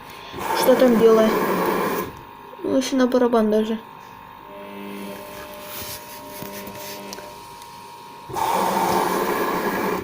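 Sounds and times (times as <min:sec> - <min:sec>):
washing machine motor humming: 0:00.0 - 0:10.0.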